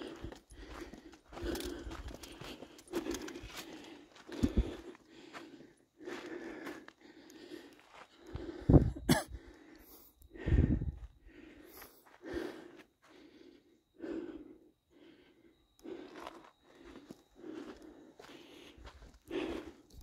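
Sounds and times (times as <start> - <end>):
heavy breathing: 0.0 - 20.0.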